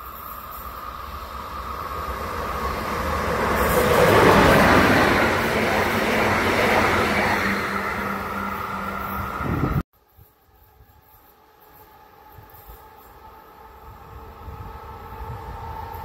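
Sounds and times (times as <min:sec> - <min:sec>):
wheels rushing on rails: 0:00.0 - 0:16.0.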